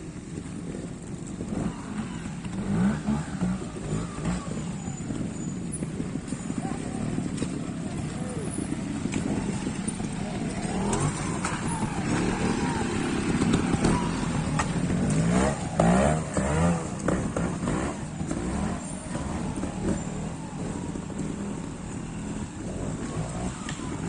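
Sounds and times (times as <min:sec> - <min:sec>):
motorcycle engine throttle blips: 0:00.0 - 0:24.0.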